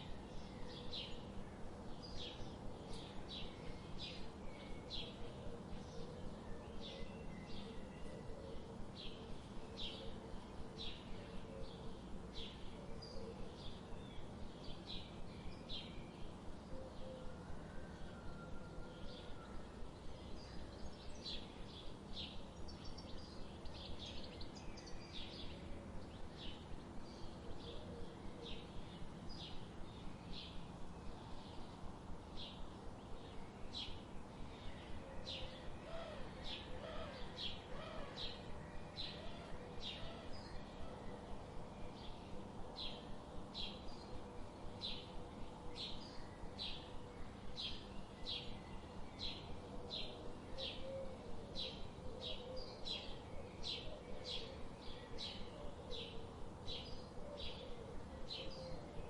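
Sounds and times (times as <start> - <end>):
low background noise: 0.0 - 59.0
songbirds chirping: 0.0 - 59.0.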